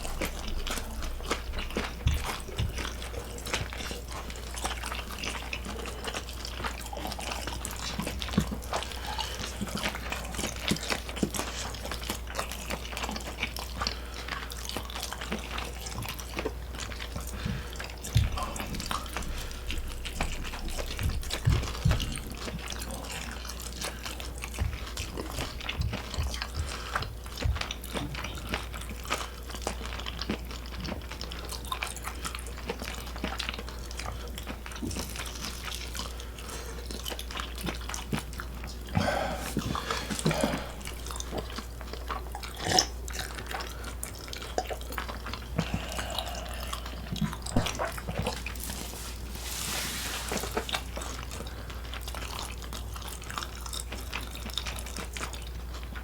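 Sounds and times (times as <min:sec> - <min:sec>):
chewing with wet mouth noises: 0:00.0 - 0:56.0.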